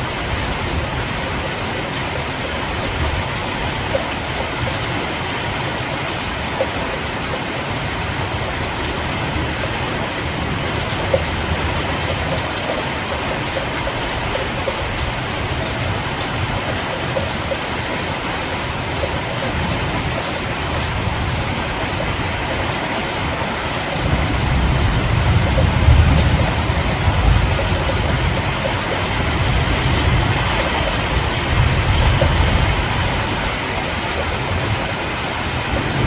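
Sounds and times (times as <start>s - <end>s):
raindrop ticks: 0.0s - 36.0s
steady rain hiss: 0.0s - 36.0s.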